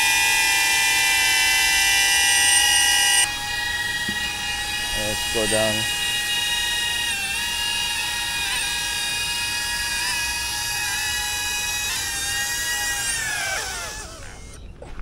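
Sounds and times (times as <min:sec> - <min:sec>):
drone propeller whine: 0:02.0 - 0:15.0.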